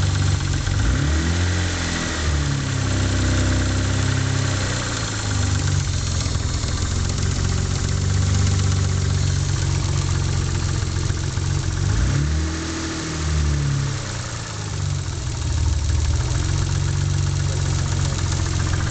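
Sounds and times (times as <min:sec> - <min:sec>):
car engine idling and revving: 0:00.0 - 0:18.9.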